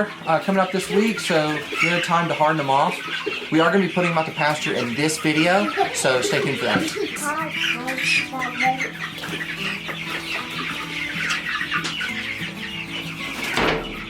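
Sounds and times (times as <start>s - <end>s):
background music: 0.0s - 14.0s
chicks peeping and cheeping: 0.0s - 14.0s.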